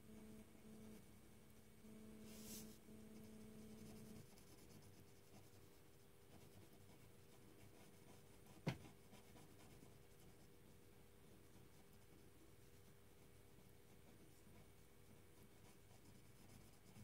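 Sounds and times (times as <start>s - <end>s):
pen scratching on paper: 2.3s - 10.5s, 11.4s - 17.0s.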